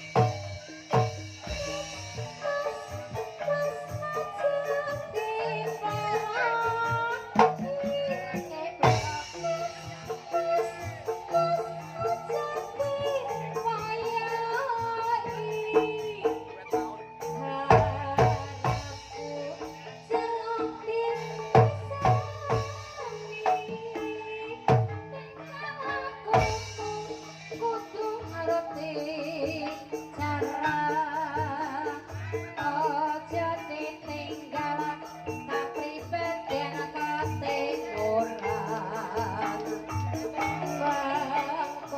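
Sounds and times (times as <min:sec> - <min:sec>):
traditional gamelan music: 0:00.0 - 0:41.9.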